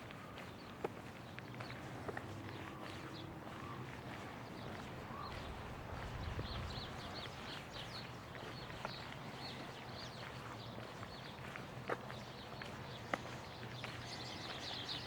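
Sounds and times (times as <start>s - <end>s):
sparrows chirping: 0.2s - 15.0s.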